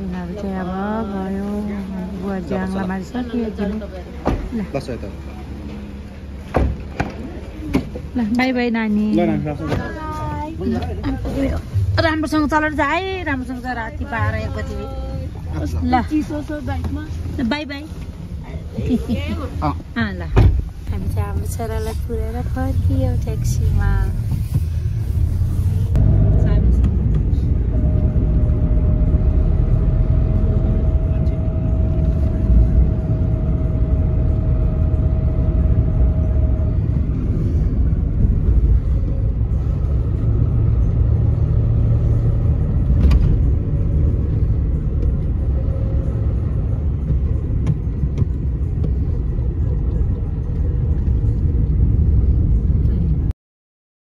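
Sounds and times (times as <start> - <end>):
road and engine rumble: 0.0 - 53.4.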